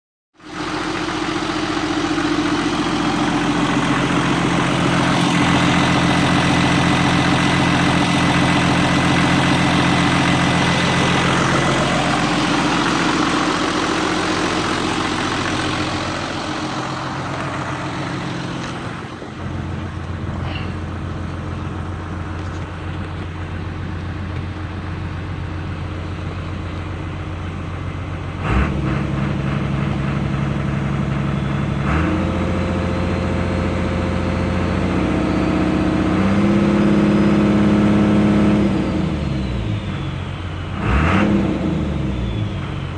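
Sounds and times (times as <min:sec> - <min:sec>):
vehicle engine running: 0:00.4 - 0:42.9.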